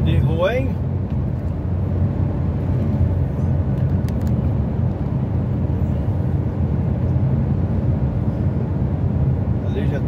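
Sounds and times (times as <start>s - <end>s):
truck engine and road drone: 0.0s - 10.0s.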